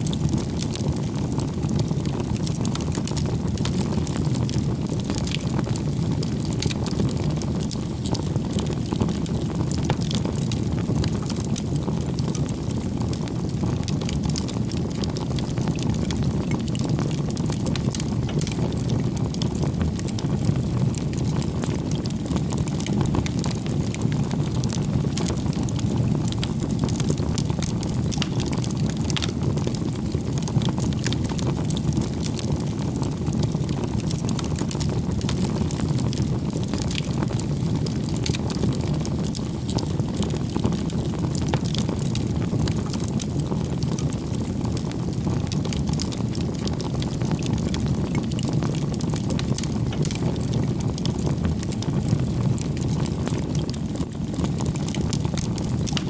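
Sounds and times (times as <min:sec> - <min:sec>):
bonfire flame rushing: 0:00.0 - 0:56.0
fire crackling and popping: 0:00.0 - 0:56.0.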